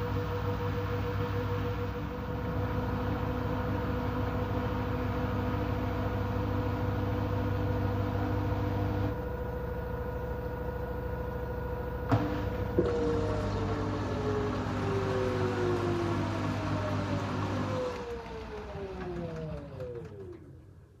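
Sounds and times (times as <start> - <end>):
washing machine spinning whine: 0.0 - 21.0.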